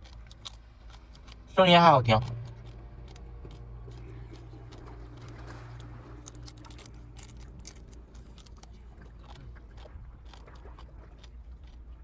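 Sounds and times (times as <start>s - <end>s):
crab being chewed: 0.0s - 12.0s
steady low hum: 0.0s - 12.0s.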